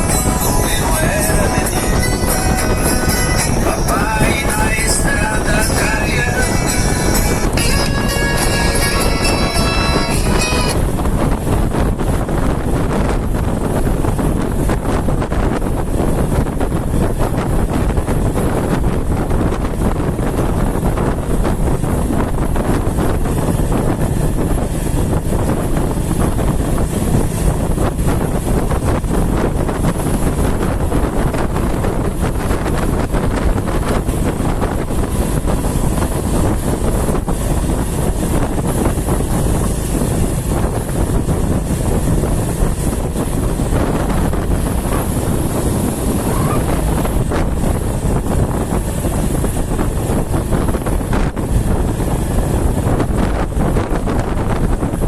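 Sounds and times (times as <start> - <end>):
vehicle road noise: 0.0 - 55.0
wind buffeting microphone: 0.0 - 55.0.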